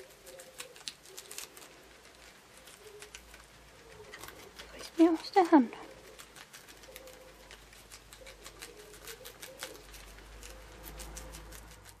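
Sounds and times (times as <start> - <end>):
guinea pig chewing lettuce: 0.0 - 12.0.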